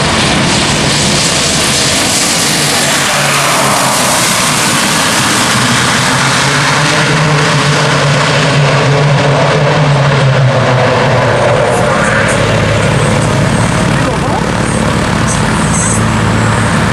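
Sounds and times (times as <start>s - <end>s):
low droning hum: 0.0s - 16.9s
turboprop engine and propeller rush: 0.0s - 16.9s.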